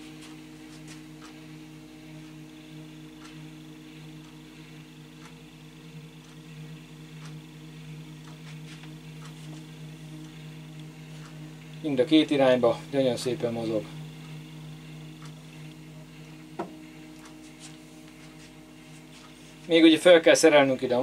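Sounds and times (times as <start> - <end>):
stepper motor humming: 0.0 - 21.0.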